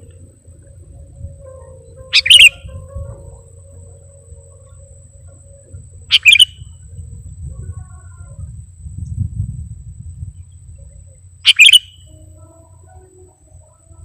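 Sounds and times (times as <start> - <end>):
bulbul calling: 0.0 - 8.5, 10.4 - 13.9
faint low rumble: 0.0 - 14.0.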